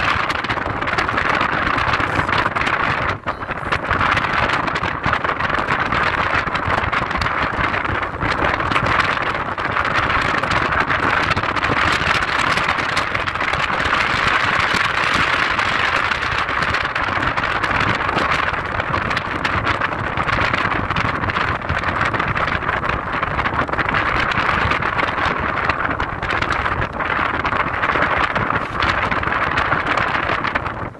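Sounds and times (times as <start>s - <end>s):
car tyre and road noise: 0.0s - 30.9s
low rumble: 0.0s - 30.9s.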